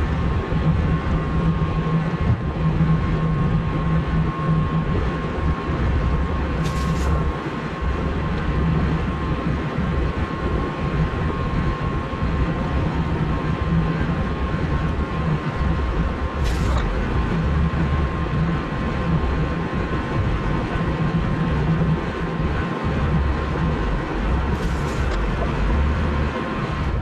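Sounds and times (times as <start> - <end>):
thin steady whine: 0.0 - 27.0.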